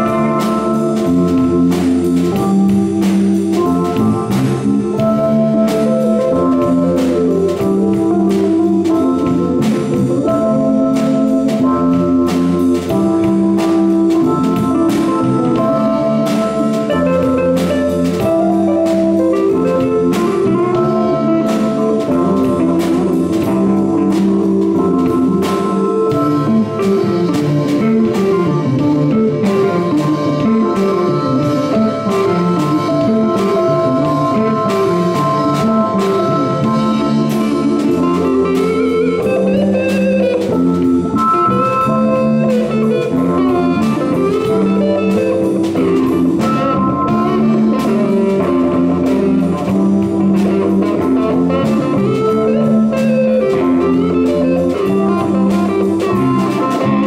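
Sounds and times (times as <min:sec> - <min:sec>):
drum beat: 0:00.0 - 0:57.0
electric bass: 0:00.0 - 0:57.0
electric guitar: 0:00.0 - 0:57.0
keyboard: 0:00.0 - 0:57.0.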